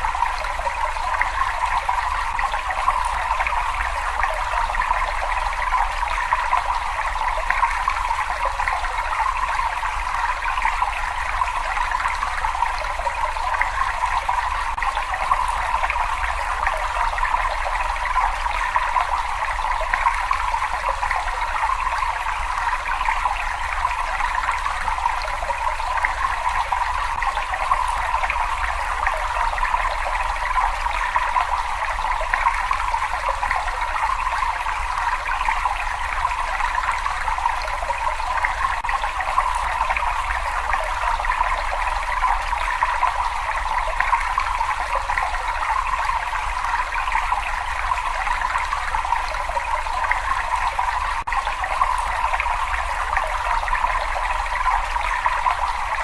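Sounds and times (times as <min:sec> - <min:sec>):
water rushing in a cave: 0:00.0 - 0:56.0.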